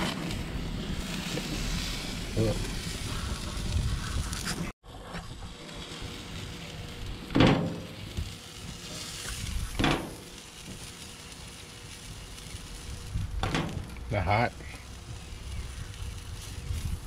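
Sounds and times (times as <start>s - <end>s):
hot dogs sizzling on grill: 0.0s - 17.0s.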